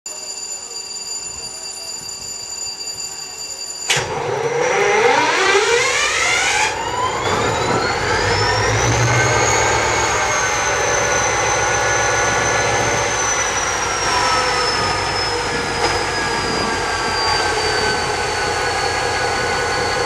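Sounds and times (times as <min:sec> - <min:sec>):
steady whine: 0:00.2 - 0:20.0
diesel locomotive engine starting: 0:03.8 - 0:20.0.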